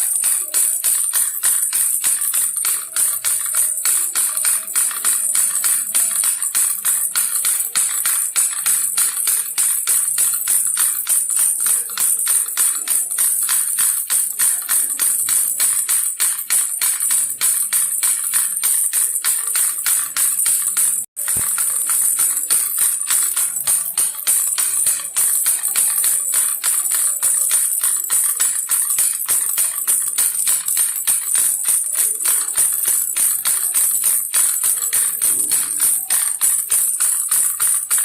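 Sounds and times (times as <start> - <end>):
toy rattle shaken: 0.0 - 38.0.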